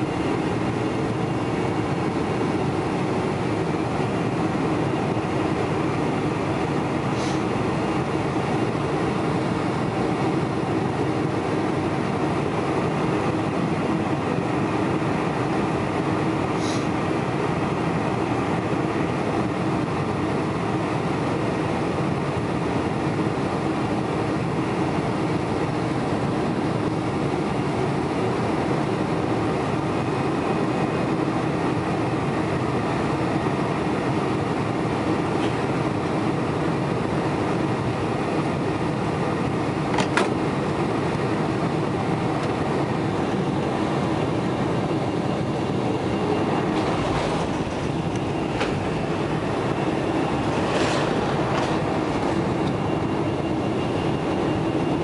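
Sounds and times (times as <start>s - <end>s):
airliner cabin engine noise: 0.0s - 55.0s.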